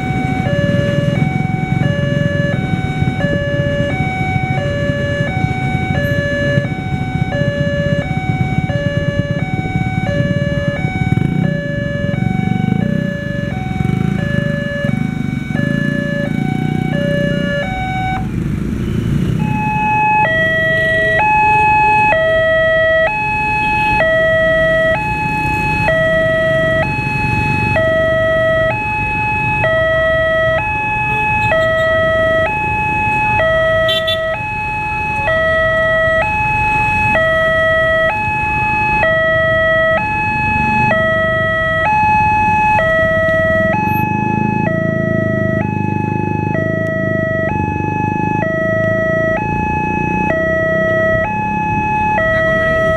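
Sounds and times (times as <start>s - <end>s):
level crossing two-tone alarm: 0.0s - 18.3s, 19.0s - 52.9s.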